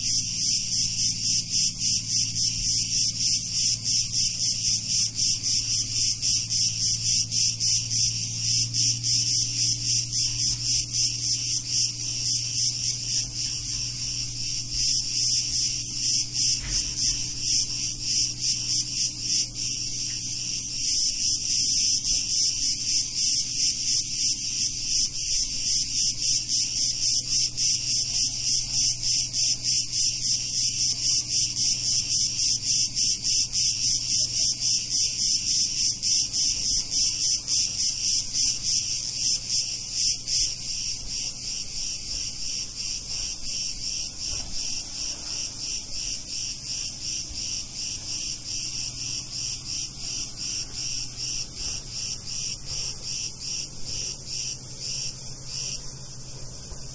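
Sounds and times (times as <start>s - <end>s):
cicadas buzzing: 0.0s - 56.9s.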